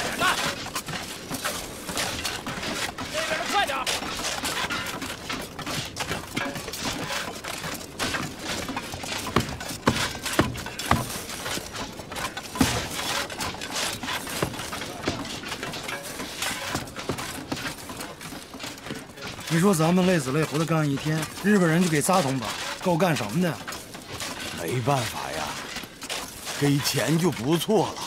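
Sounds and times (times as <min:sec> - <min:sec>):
hard objects knocking and clinking: 0:00.0 - 0:28.0.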